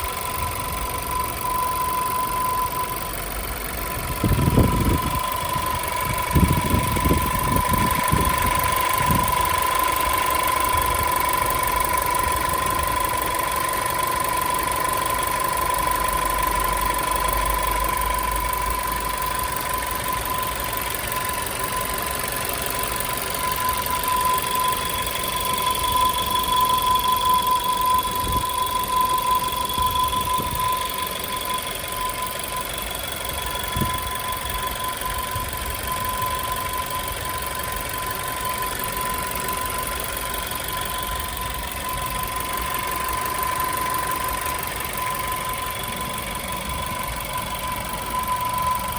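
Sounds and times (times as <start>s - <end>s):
car engine idling: 0.0s - 48.9s
fainter higher whistle: 0.0s - 48.9s
loud steady whistle: 0.0s - 48.9s.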